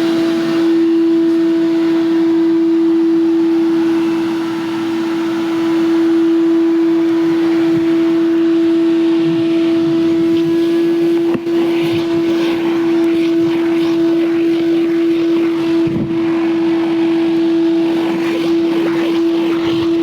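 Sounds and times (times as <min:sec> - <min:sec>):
hissing water spray: 0:00.0 - 0:20.0
pressure washer motor hum: 0:00.0 - 0:20.0.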